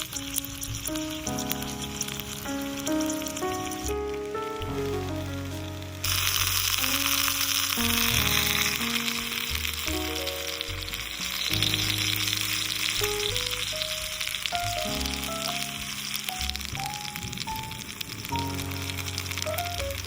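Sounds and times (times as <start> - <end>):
background music: 0.0 - 20.0
food sizzling in a pan: 0.0 - 20.0.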